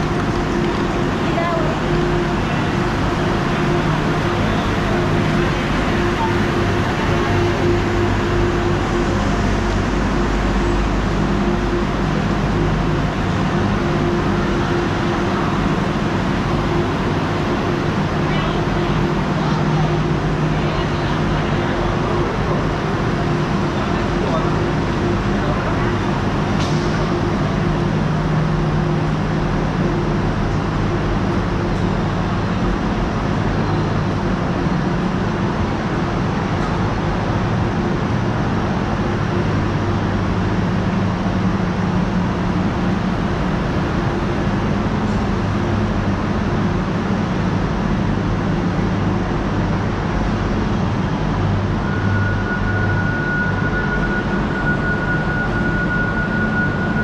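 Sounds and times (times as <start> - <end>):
train machinery humming: 0.0 - 57.0.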